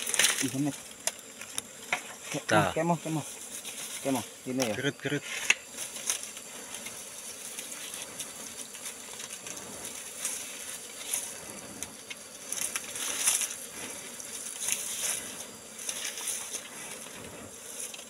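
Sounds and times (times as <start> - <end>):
dry leaves rustling and crackling: 0.0 - 0.8, 2.2 - 18.0
forest insects buzzing: 0.0 - 18.0.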